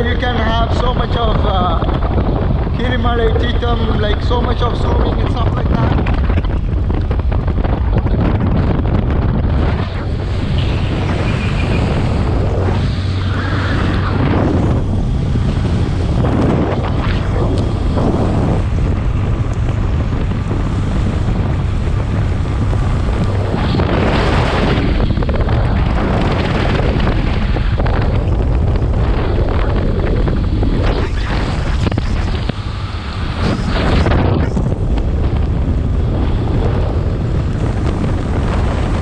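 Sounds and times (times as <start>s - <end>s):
motorcycle engine hum: 0.0s - 39.0s
wind buffeting microphone: 0.0s - 39.0s.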